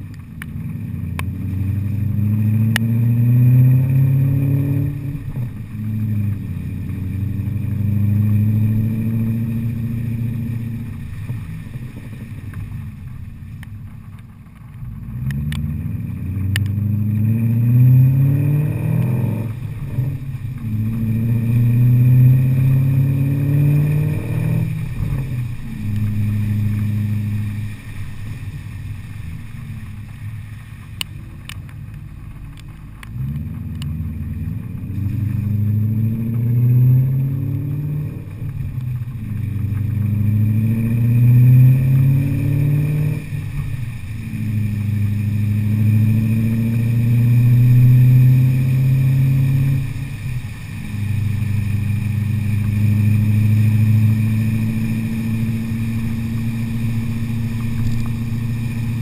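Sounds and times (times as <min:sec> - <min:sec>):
car engine accelerating hard: 0:00.0 - 0:59.0.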